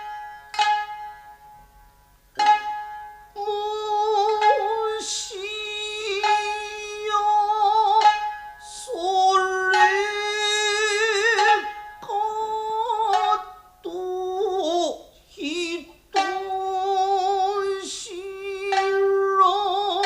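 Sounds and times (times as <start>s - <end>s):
person singing long wavering notes: 3.3s - 20.0s.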